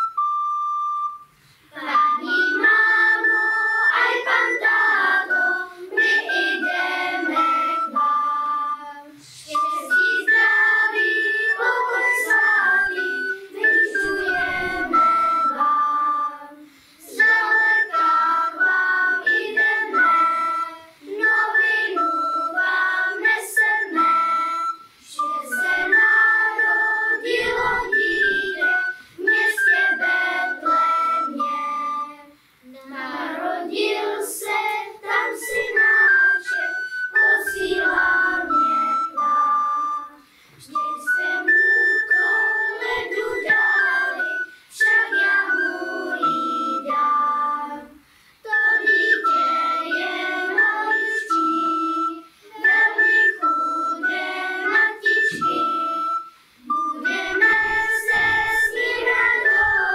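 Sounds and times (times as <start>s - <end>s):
children's choir singing: 1.7s - 59.9s.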